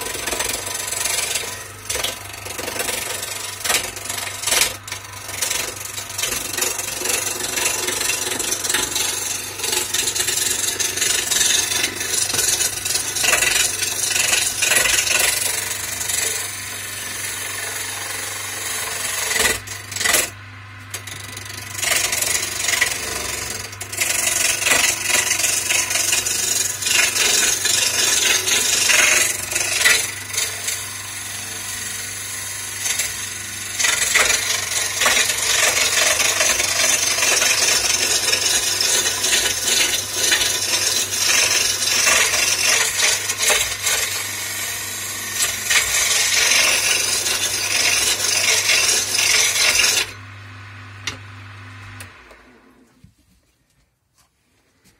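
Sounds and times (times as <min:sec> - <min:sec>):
lathe motor hum: 0:00.0 - 0:52.9
gouge scraping spinning wood: 0:00.0 - 0:53.0.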